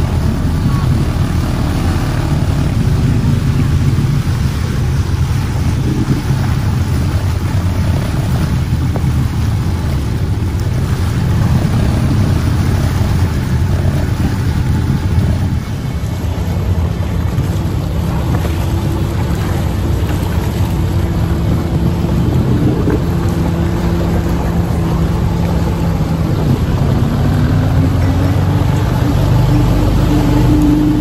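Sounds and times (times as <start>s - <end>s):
jet ski engine droning: 0.0s - 31.0s
water rushing: 0.0s - 31.0s
wind buffeting microphone: 0.0s - 31.0s.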